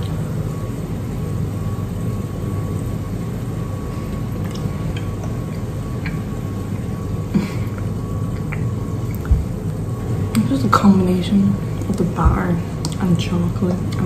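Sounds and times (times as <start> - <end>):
low machine rumble: 0.0 - 14.0
thin constant hum: 0.0 - 14.0.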